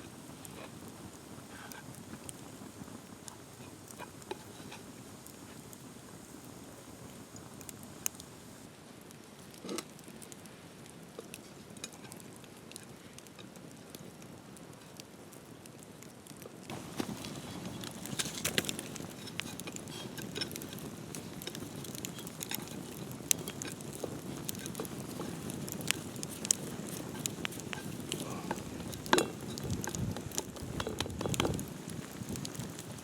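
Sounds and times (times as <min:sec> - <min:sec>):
campfire crackling: 0:00.0 - 0:33.0
low hiss of fire: 0:00.0 - 0:33.0.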